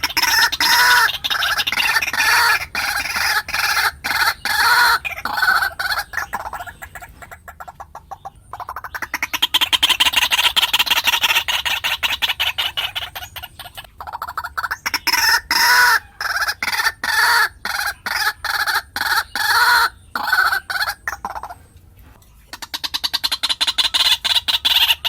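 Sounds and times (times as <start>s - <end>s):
waterhen calling: 0.0s - 25.0s.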